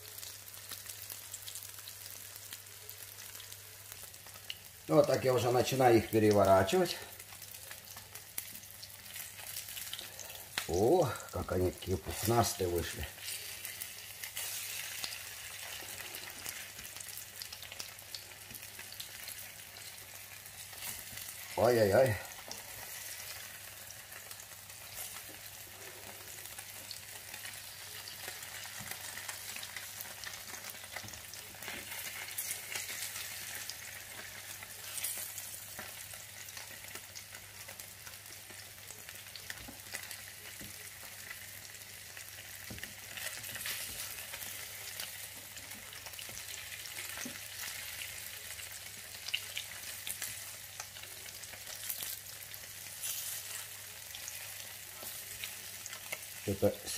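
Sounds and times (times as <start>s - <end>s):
pancakes sizzling in oil: 0.0s - 56.9s.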